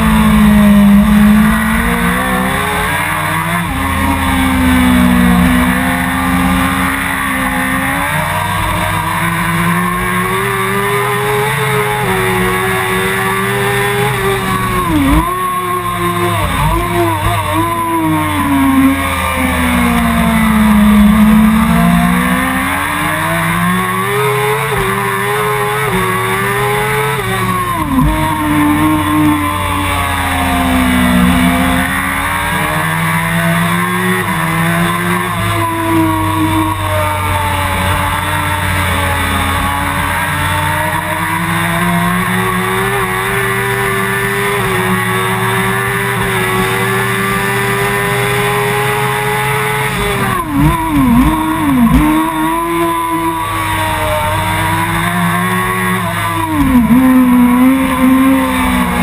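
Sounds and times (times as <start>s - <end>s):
engine blips on downshifts: 0.0s - 59.0s
motorcycle engine at high revs: 0.0s - 59.0s.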